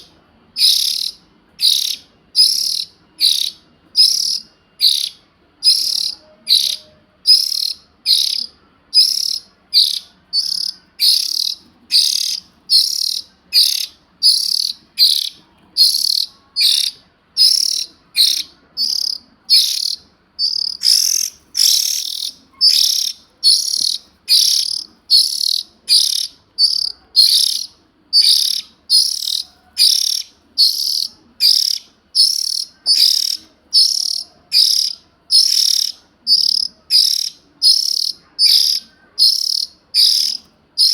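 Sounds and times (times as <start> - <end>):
bird raspy begging calls: 0.0 - 40.9.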